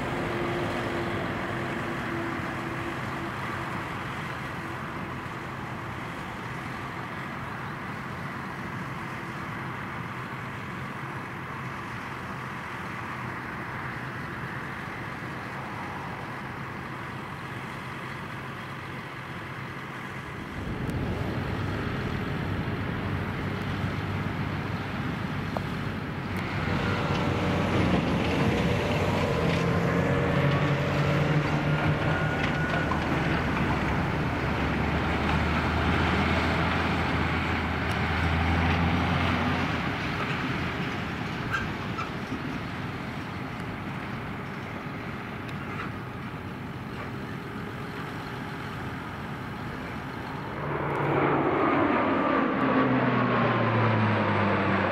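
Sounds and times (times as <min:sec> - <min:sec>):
distant farm machinery running: 0:00.0 - 0:54.9
tractor diesel engine passing: 0:00.0 - 0:54.9.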